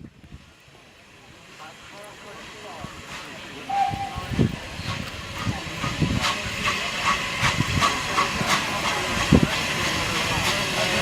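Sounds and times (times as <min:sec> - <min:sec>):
steam locomotive hissing steam: 0:00.1 - 0:11.0.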